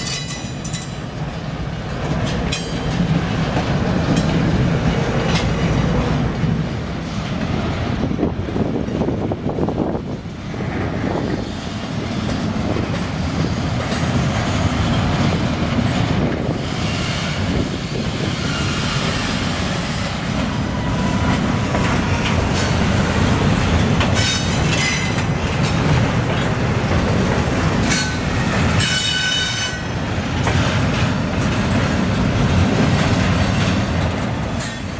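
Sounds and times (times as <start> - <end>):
steel wheels rumbling on rail: 0.0 - 34.9.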